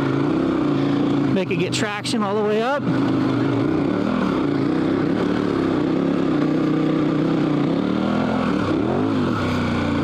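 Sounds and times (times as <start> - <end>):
motorcycle engine pulling uphill: 0.0 - 10.0.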